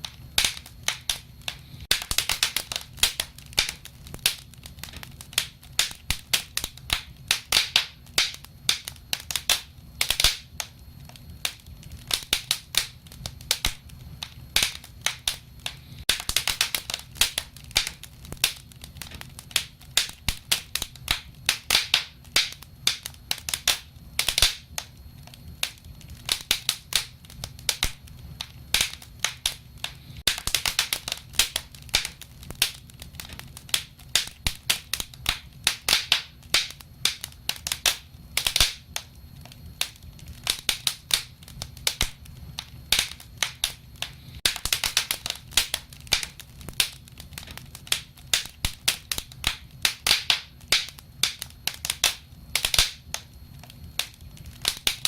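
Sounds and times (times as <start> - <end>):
fire rumbling: 0.0 - 55.0
wood fire popping and snapping: 0.0 - 55.0.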